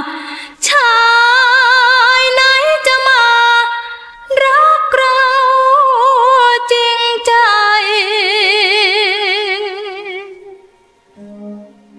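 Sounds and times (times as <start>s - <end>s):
woman singing a cappella: 0.0s - 11.8s.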